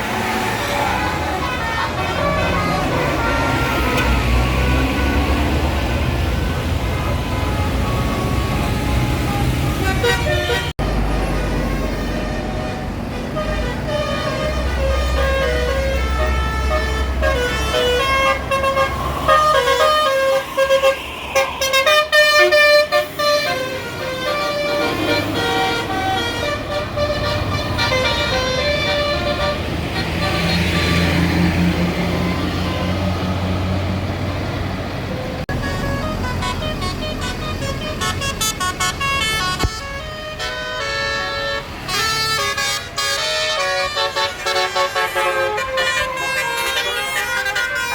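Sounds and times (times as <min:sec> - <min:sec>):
bus engine running: 0:00.0 - 0:47.9
bus multi-tone horn tune: 0:00.0 - 0:47.9.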